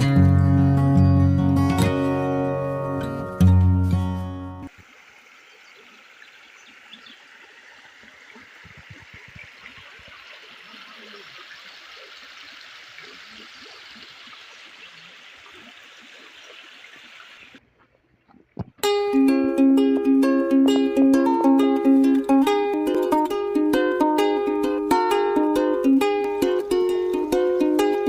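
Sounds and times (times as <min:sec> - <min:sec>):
stream trickling and babbling: 0:04.7 - 0:28.0.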